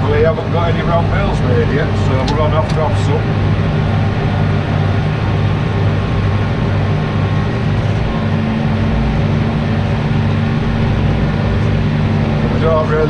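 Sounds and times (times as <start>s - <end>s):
steady hum: 0.0s - 13.0s
tractor engine droning: 0.0s - 13.0s.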